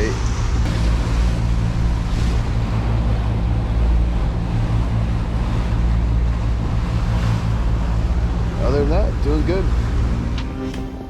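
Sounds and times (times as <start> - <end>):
wind buffeting microphone: 0.0 - 10.6
low engine hum: 0.0 - 11.0
water rushing past hulls: 0.0 - 11.0.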